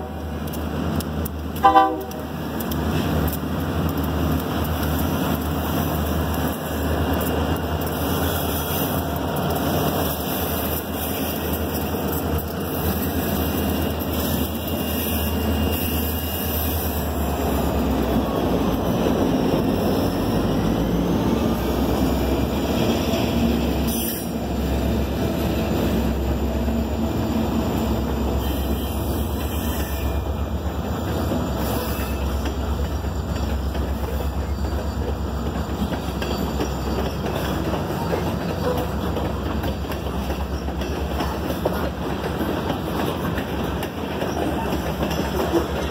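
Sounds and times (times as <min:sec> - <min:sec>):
diesel locomotives running: 0:00.0 - 0:45.9
train wheels on rails: 0:00.0 - 0:45.9.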